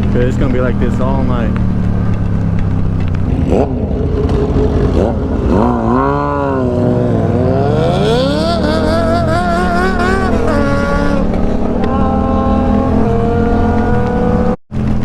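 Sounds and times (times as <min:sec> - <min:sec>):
motorcycle engine revving: 0:00.0 - 0:15.0
wind rumble: 0:00.0 - 0:15.0.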